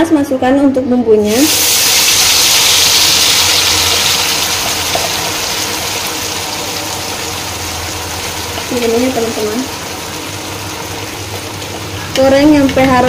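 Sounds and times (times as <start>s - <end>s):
paste sizzling in hot oil: 1.3s - 12.2s.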